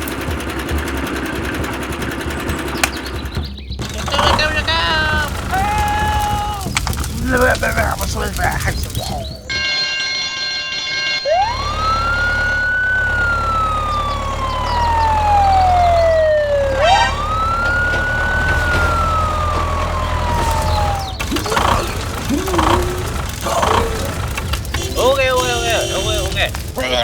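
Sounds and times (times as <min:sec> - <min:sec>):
low engine rumble: 0:00.0 - 0:27.0
emergency siren wailing: 0:03.8 - 0:27.0.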